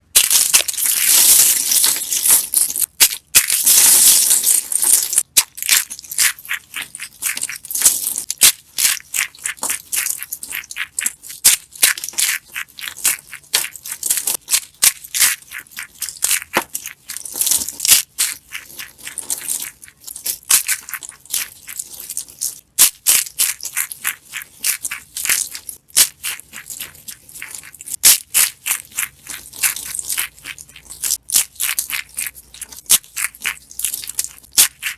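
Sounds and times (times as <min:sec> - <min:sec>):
dry soap crunching: 0:00.0 - 0:34.9.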